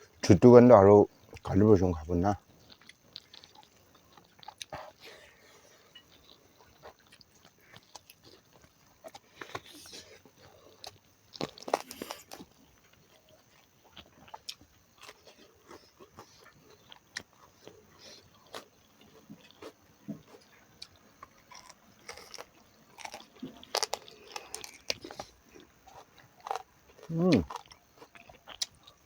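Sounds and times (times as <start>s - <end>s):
person chewing food: 2.4s - 29.0s.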